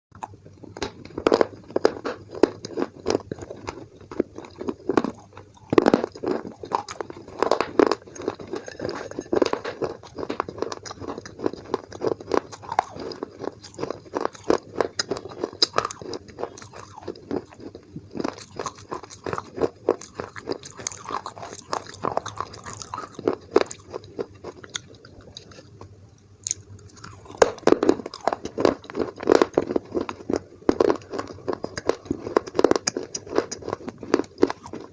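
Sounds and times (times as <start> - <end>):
crunching clay pot: 0.2 - 25.7, 26.4 - 34.9
gritty chewing: 0.2 - 34.9.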